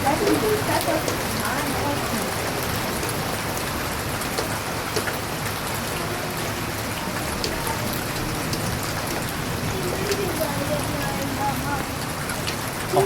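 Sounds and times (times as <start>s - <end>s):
rain pouring: 0.0s - 13.0s.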